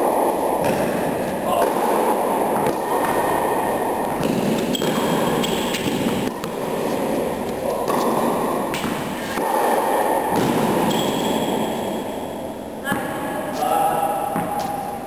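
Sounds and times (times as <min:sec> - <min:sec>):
tennis ball struck and bouncing: 0:00.1 - 0:12.2, 0:14.3 - 0:15.0.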